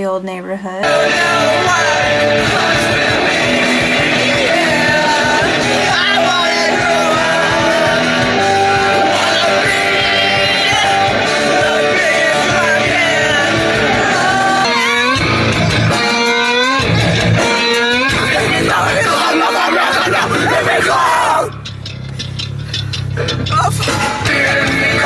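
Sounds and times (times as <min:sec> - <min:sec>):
electric guitar: 0:00.8 - 0:20.8, 0:23.1 - 0:25.0
rock song with singing: 0:00.8 - 0:25.0.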